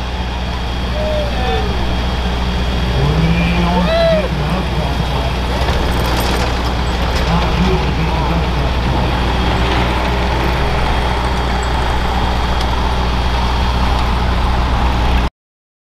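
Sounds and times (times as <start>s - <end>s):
tractor engine idling: 0.0s - 15.2s.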